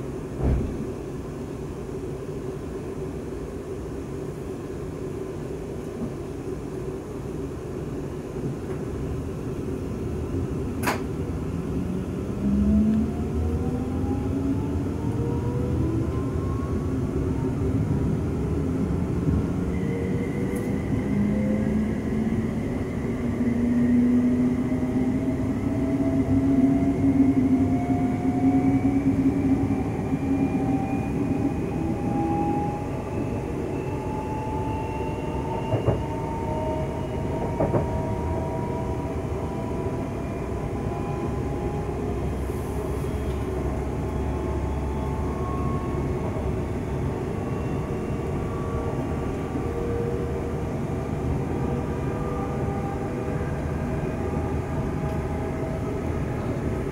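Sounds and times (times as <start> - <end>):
wheels rumbling on rail: 0.0 - 56.9
electric train traction whine: 10.8 - 56.9.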